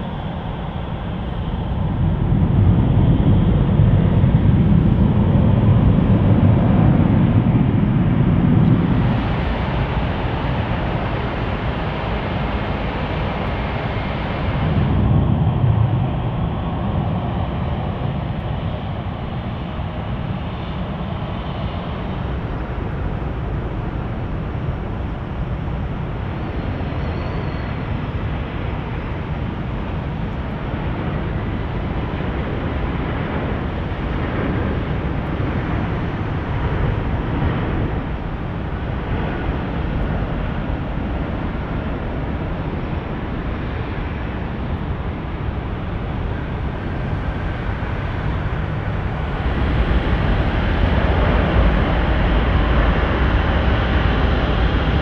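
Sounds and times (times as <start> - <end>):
jet airliner rumble: 0.0 - 55.0.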